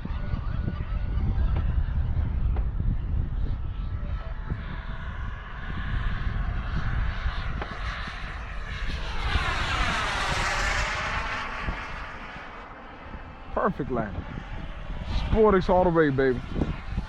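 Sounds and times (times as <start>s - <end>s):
model airplane propeller: 0.0s - 17.0s
wind rumble on microphone: 0.0s - 17.0s.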